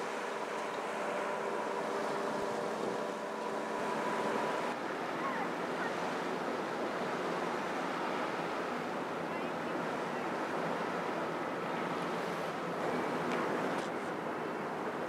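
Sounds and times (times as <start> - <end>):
river water rushing: 0.0 - 15.0
wind: 0.0 - 15.0.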